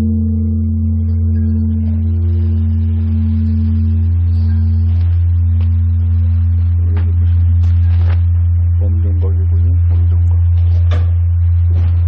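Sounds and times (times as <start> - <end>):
large bronze bell ringing: 0.0 - 12.0.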